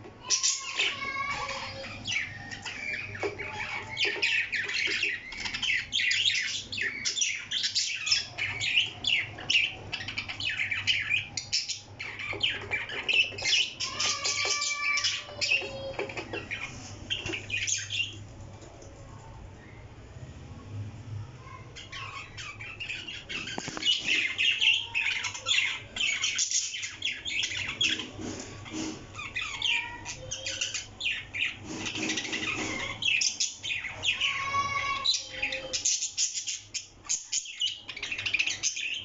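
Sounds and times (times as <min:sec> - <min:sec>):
parrot squawking: 0:00.2 - 0:18.1, 0:21.4 - 0:39.0.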